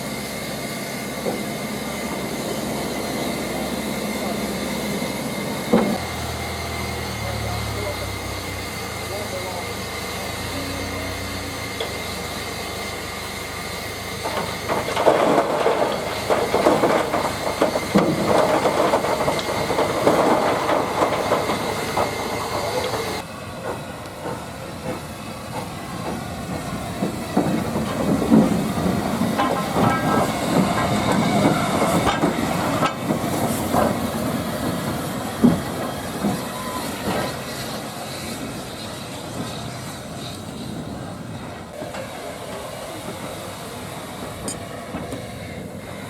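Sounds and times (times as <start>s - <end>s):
steam hissing: 0.0s - 46.0s
train wheels clattering over rail joints: 0.0s - 46.0s.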